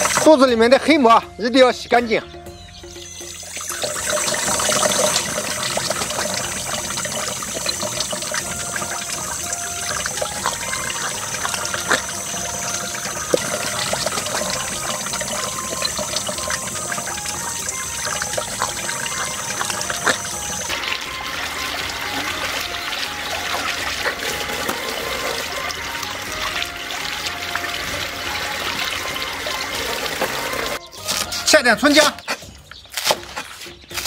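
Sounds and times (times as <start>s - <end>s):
tap water running and splashing: 0.0s - 0.5s, 2.9s - 31.2s.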